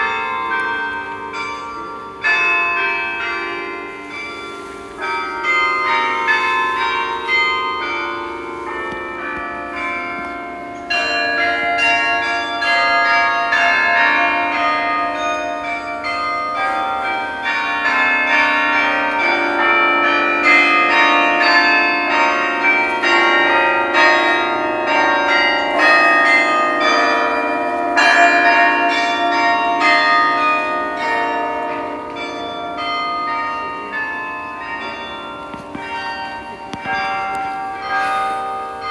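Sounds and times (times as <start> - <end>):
carillon bells playing a melody: 0.0 - 38.9.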